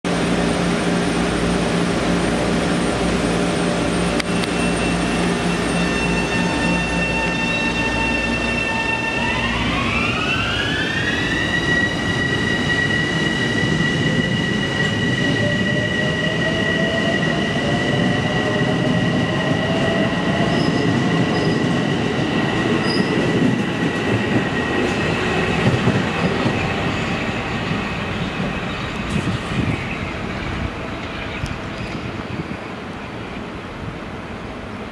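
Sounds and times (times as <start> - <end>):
electric train propulsion whine: 0.1 - 34.9
wheels rumbling on rail: 0.1 - 34.9.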